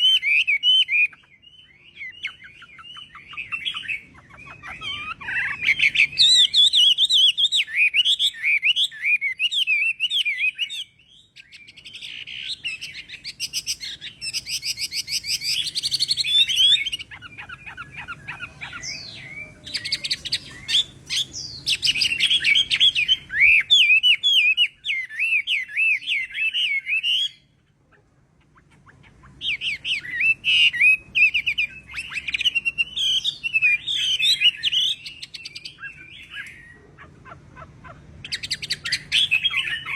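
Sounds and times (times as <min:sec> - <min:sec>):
bird warbling and trilling: 0:00.0 - 0:39.9.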